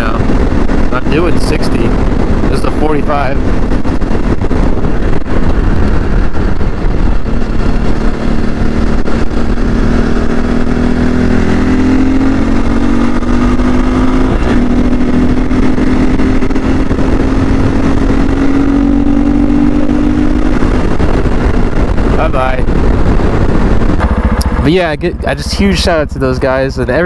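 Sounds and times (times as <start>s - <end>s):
motorcycle engine accelerating: 0.0s - 27.0s
wind rumble: 0.0s - 27.0s.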